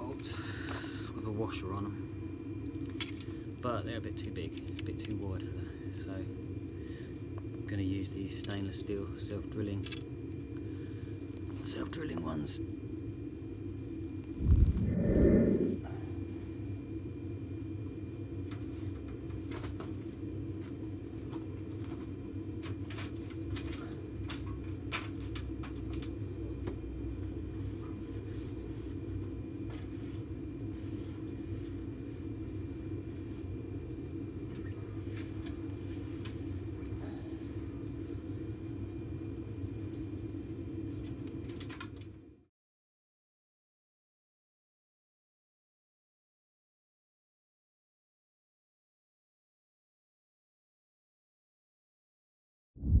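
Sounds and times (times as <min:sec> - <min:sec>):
low mechanical hum: 0:00.0 - 0:42.5.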